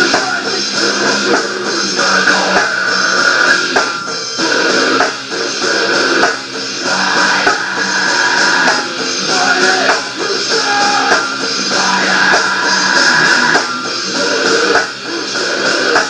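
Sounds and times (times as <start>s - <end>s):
drum kit: 0.0s - 16.0s
strummed guitar: 0.0s - 16.0s.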